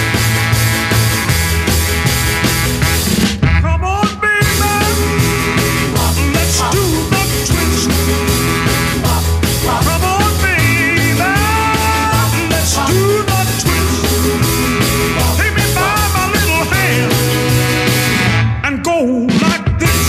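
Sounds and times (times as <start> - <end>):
repeating bass line: 0.0 - 3.8, 4.4 - 18.7, 19.8 - 20.0
steady drum beat: 0.0 - 18.6, 19.2 - 20.0
rock music: 0.0 - 20.0.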